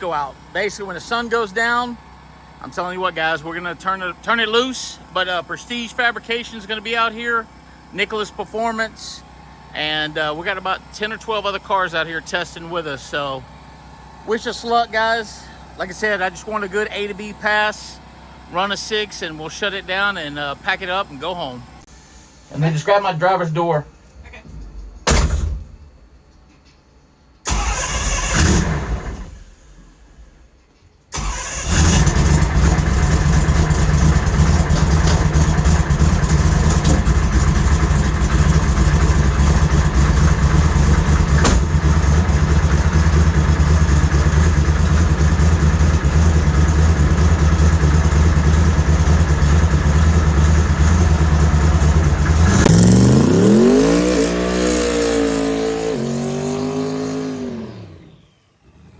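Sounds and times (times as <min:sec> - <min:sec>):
car engine starting and idling: 0:00.0 - 0:21.9, 0:27.4 - 0:30.5, 0:31.1 - 0:58.9
engine revving: 0:00.0 - 0:21.9, 0:27.5 - 0:29.5, 0:31.2 - 0:58.9.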